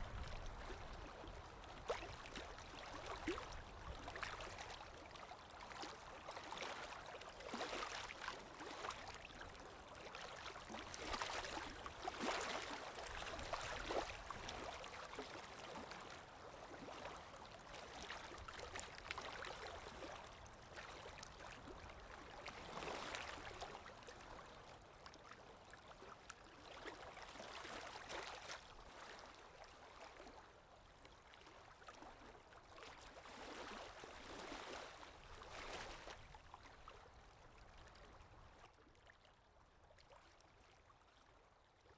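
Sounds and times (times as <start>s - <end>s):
stream trickling and gurgling: 0.0s - 41.9s.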